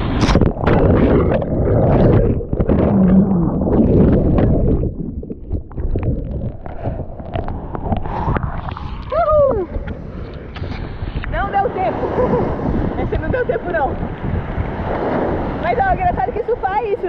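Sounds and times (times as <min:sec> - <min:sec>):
whitewater churning and splashing: 0:00.0 - 0:17.0.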